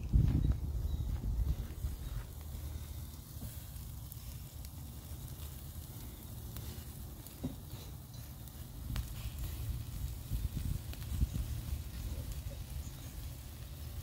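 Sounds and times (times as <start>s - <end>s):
wind rumble on microphone: 0.0s - 6.2s, 8.4s - 14.0s
faint crackles: 0.0s - 14.0s
patties sizzling on a grill: 0.1s - 14.0s.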